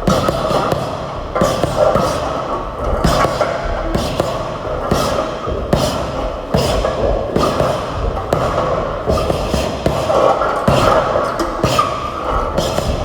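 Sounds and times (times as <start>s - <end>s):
music with heavy thudding beat: 0.0s - 13.0s.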